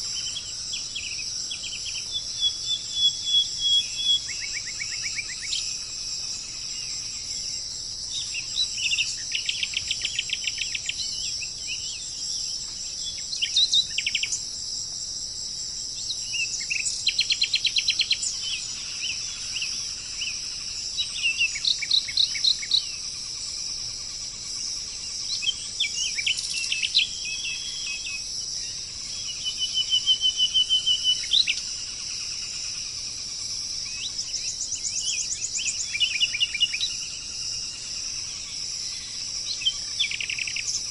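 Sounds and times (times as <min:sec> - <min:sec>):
birds singing: 0:00.0 - 0:14.9, 0:15.7 - 0:40.9
insects droning: 0:00.0 - 0:40.9.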